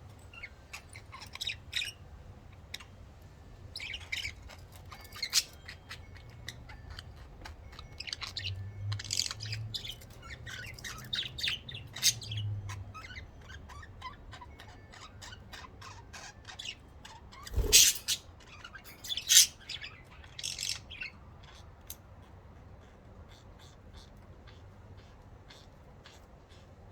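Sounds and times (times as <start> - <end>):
budgerigars chirping: 0.2 - 26.9.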